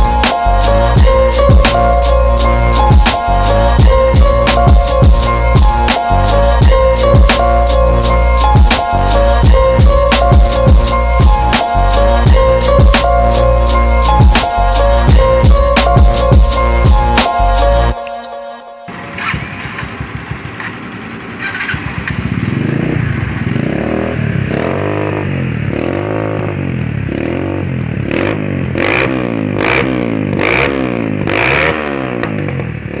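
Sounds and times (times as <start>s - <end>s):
motorcycle engine revving: 0.0s - 18.0s, 18.9s - 33.0s.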